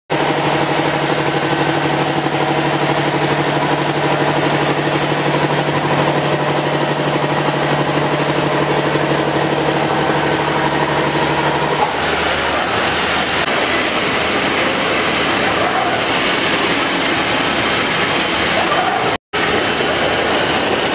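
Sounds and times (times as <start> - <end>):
machine noisy rush: 0.1 - 20.9.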